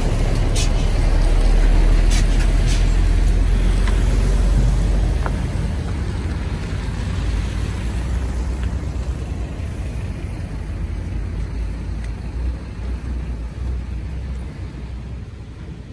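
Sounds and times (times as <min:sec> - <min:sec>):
dump truck pulling by: 0:00.0 - 0:15.9
van passing: 0:00.0 - 0:15.9.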